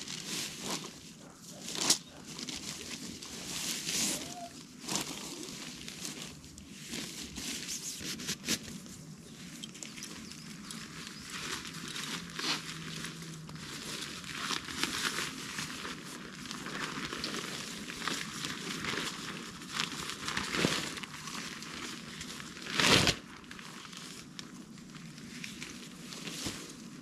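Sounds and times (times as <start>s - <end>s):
crinkling and rustling handling: 0.0s - 27.0s.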